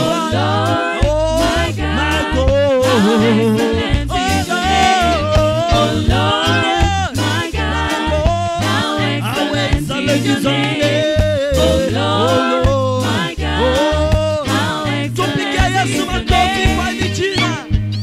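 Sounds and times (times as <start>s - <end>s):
singers singing: 0.0s - 17.6s
band playing reggae song: 0.0s - 18.0s
keyboard: 0.0s - 18.0s
pulsing bass line: 0.0s - 18.0s.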